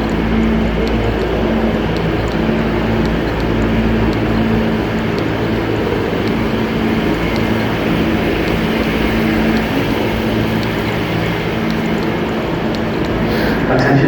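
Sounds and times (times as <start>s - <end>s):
subway train running: 0.0s - 14.0s.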